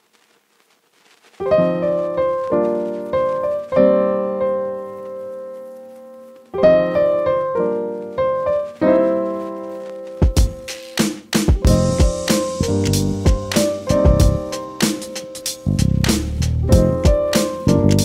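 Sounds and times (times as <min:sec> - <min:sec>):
solo piano chords: 0:01.4 - 0:10.7, 0:11.6 - 0:15.8, 0:16.6 - 0:18.0.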